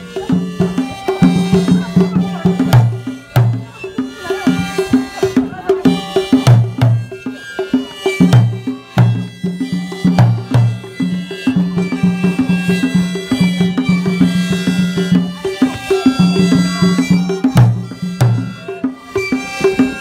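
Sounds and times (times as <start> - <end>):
traditional music: 0.0 - 20.0.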